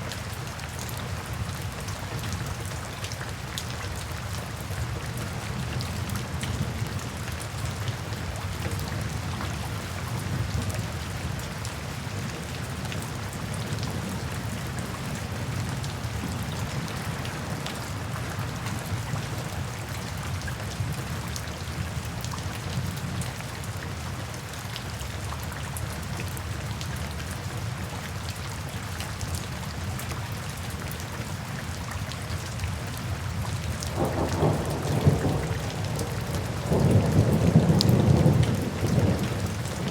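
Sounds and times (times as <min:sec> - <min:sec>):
sharp ticks of raindrops: 0:00.0 - 0:39.9
steady rain falling: 0:00.0 - 0:39.9.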